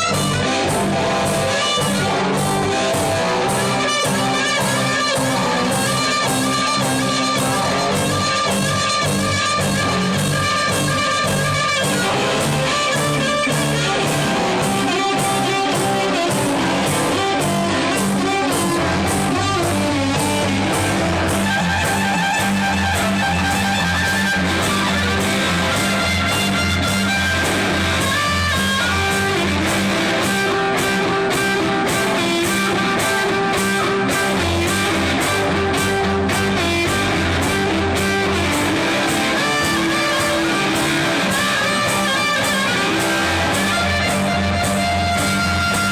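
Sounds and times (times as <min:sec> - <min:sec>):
blues guitar: 0:00.0 - 0:45.9
steady drum beat: 0:00.0 - 0:45.9
walking bass: 0:00.0 - 0:45.9.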